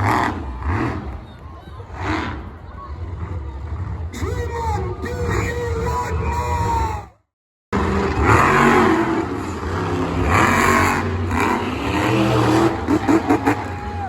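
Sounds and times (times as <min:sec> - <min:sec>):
monster truck engine revving: 0:00.0 - 0:07.0, 0:07.8 - 0:14.0.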